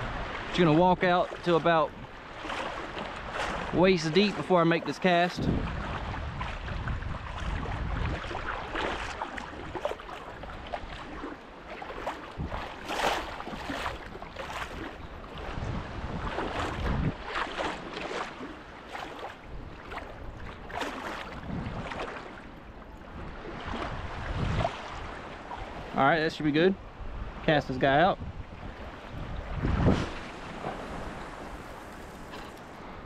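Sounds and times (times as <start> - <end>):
wind rumbling on microphone: 0.0 - 26.0, 26.8 - 33.0
water sloshing around legs: 1.1 - 25.9, 30.0 - 32.8.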